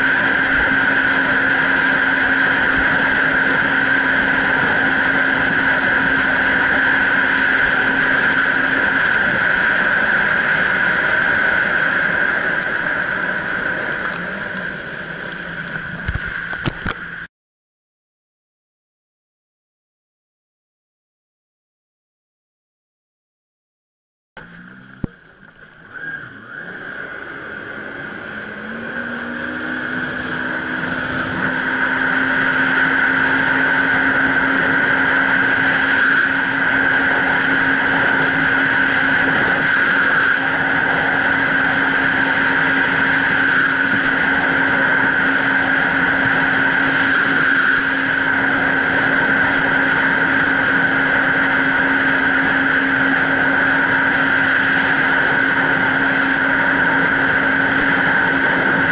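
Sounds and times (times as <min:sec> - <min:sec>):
jet ski engine whine: 0:00.0 - 0:17.3, 0:24.4 - 0:58.9.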